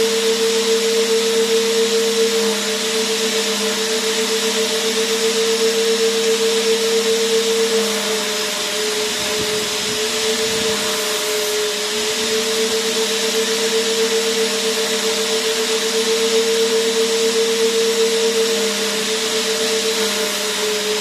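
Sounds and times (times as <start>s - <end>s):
vacuum cleaner motor running: 0.0s - 21.0s.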